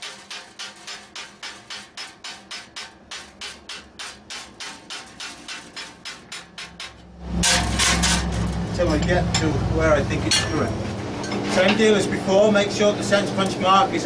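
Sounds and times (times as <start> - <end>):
hammer striking hot metal: 0.0 - 11.4.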